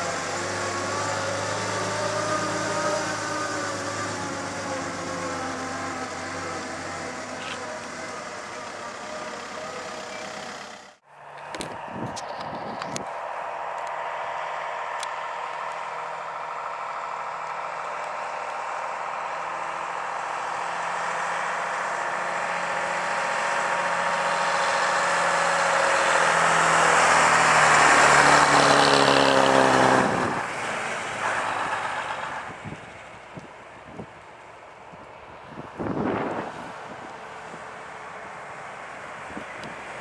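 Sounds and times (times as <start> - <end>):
bus engine passing: 0.0 - 40.0.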